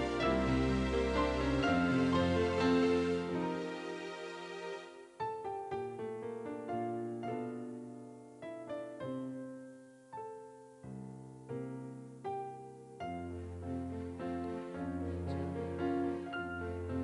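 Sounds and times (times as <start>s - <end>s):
slow solo piano chords: 0.0s - 3.7s, 5.2s - 17.0s.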